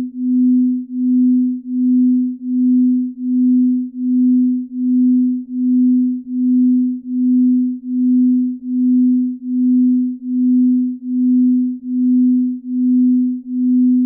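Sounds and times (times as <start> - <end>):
low pulsing pure tone: 0.0 - 14.0.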